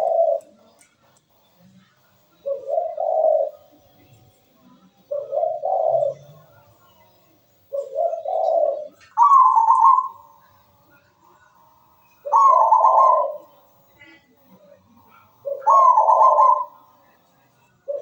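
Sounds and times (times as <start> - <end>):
dove cooing: 0.0 - 0.7, 2.2 - 18.0.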